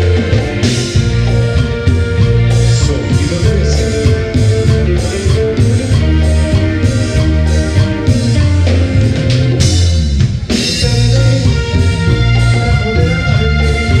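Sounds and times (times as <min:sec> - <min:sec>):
dance band playing ballad: 0:00.0 - 0:14.0.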